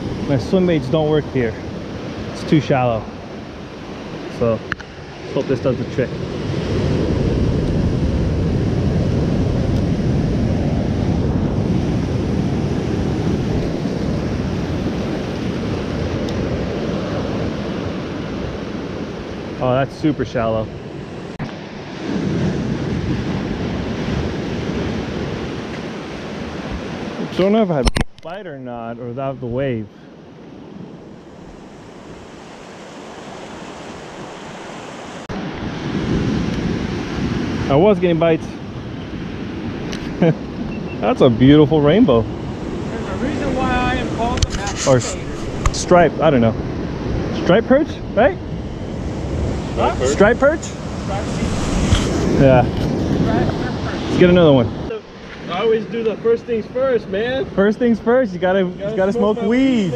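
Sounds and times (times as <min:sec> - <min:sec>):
wind buffeting microphone: 0:00.0 - 0:28.2, 0:29.4 - 0:57.6
ocean surf: 0:00.0 - 0:59.9.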